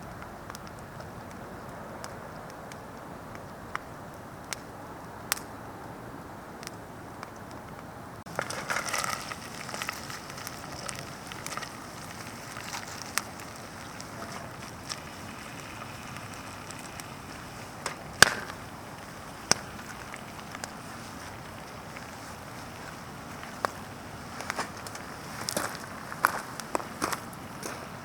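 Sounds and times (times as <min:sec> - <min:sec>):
campfire crackling: 0:00.0 - 0:28.0
sharp fire pops: 0:02.0 - 0:05.5, 0:08.3 - 0:27.2.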